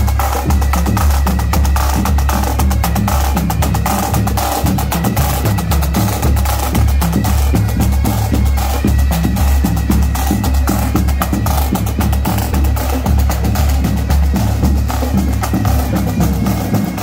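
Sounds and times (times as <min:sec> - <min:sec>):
marching drums playing: 0:00.0 - 0:17.0.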